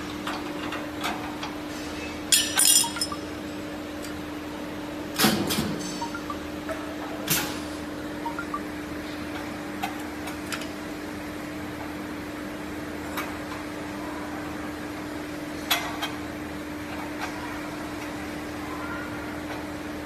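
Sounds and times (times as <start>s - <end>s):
welding machine electrical hum: 0.0s - 20.0s.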